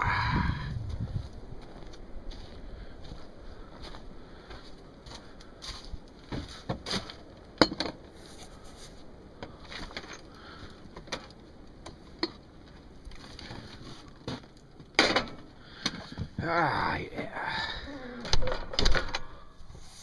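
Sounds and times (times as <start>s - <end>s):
low steady hiss: 0.0s - 20.0s.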